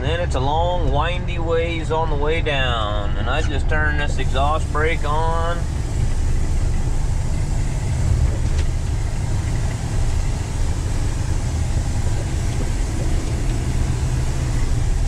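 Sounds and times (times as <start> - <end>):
truck engine low rumble: 0.0 - 15.0.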